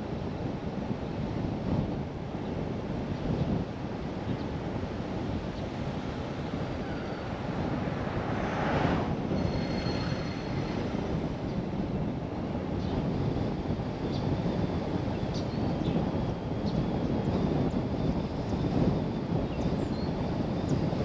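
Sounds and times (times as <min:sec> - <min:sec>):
car road and tyre noise: 0:00.0 - 0:21.0.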